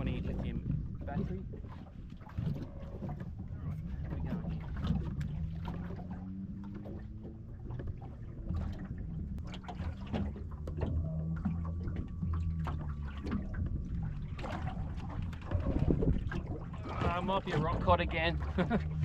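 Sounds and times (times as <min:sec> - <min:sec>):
knocks against hull: 0:00.0 - 0:19.0
water splashing against hull: 0:00.0 - 0:19.0.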